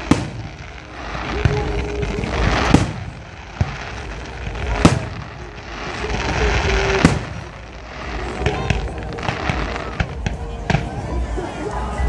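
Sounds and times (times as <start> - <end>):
firework shells bursting: 0.0 - 10.4.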